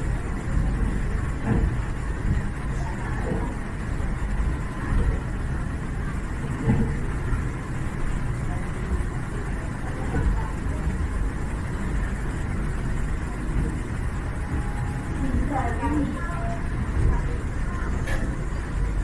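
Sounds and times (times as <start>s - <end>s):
faint steady tones: 0.0s - 19.0s
train rumble: 0.0s - 19.0s.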